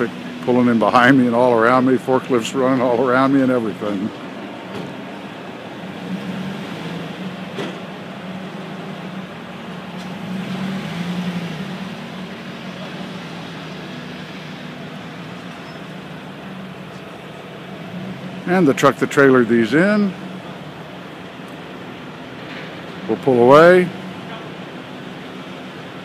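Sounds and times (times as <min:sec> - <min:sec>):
forklift engine idling: 0:00.0 - 0:26.0
vehicles running nearby: 0:00.0 - 0:26.0.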